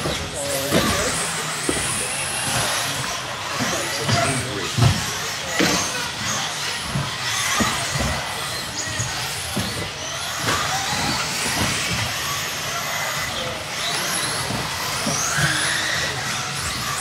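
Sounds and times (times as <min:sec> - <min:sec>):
rc car motor whine: 0:00.0 - 0:17.0.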